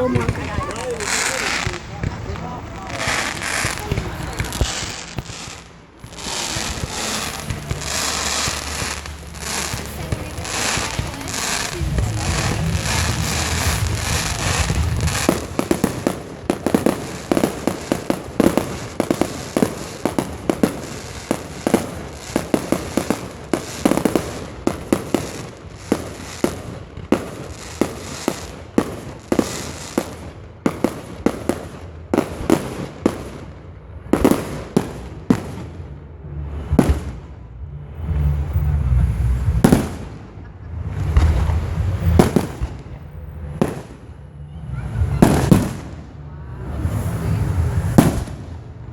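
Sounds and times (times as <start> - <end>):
fireworks bangs and pops: 0.0 - 48.9
fireworks crackling: 0.0 - 48.9.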